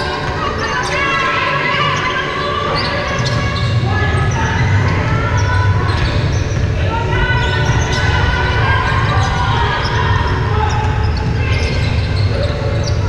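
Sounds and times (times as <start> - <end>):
low hum of hall: 0.0 - 13.0.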